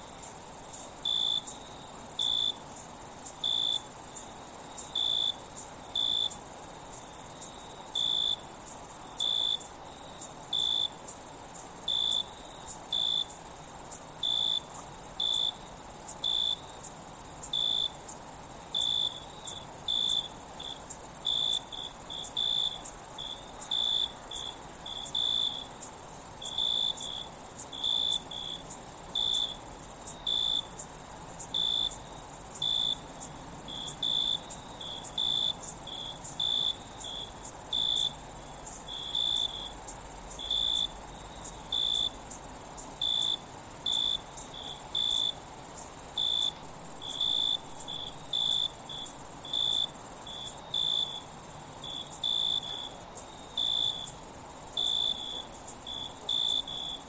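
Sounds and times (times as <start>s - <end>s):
cricket chirping: 0.0s - 57.0s
high-pitched insect trill: 0.0s - 57.0s.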